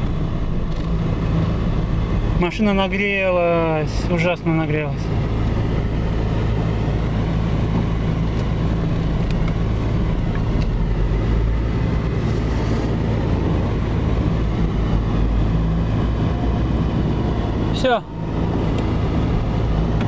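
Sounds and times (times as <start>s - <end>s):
car engine hum: 0.0s - 20.0s
tyre and road noise: 0.0s - 20.0s.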